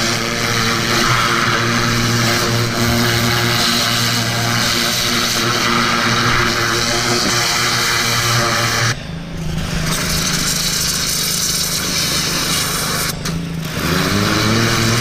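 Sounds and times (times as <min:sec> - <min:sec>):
high-pressure water jet hissing: 0:00.0 - 0:09.0, 0:09.6 - 0:15.0
pressure washer engine running: 0:00.0 - 0:15.0.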